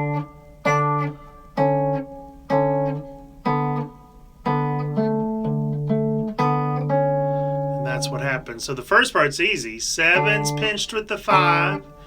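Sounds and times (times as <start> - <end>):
fingerpicked guitar: 0.0 - 12.0.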